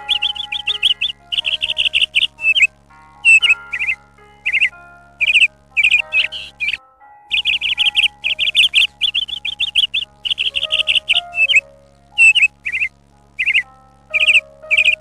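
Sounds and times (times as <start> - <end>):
small bird chirping: 0.0 - 15.0
soft background music: 0.0 - 15.0.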